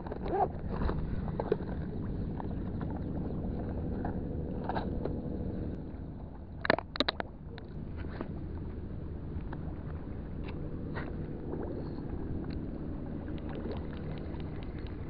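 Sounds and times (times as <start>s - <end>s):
wind on microphone: 0.0s - 6.4s, 7.2s - 15.0s.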